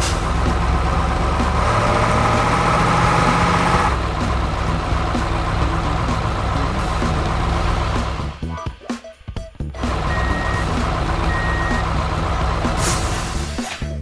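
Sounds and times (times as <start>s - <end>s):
heavy vehicle engine running: 0.0s - 8.8s, 9.4s - 14.0s.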